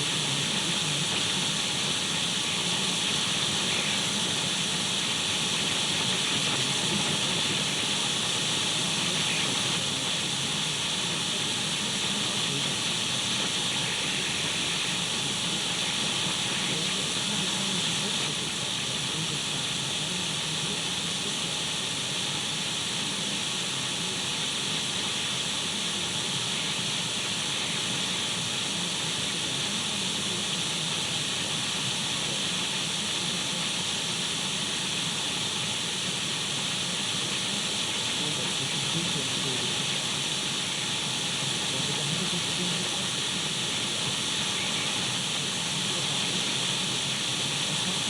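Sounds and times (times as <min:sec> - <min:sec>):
radio static hiss: 0:00.0 - 0:48.0.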